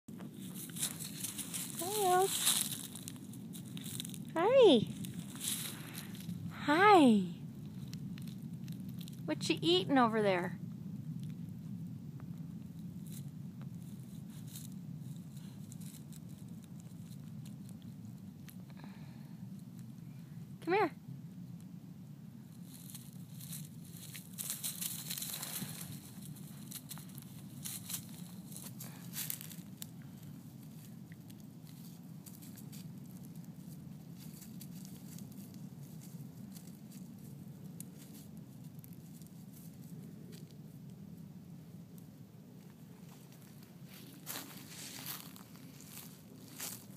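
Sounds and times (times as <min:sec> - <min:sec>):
dry leaves crackling: 0:00.1 - 0:11.8, 0:12.4 - 0:20.2, 0:22.4 - 0:46.9
low rumble: 0:00.1 - 0:46.9
steady low hum: 0:00.1 - 0:46.9.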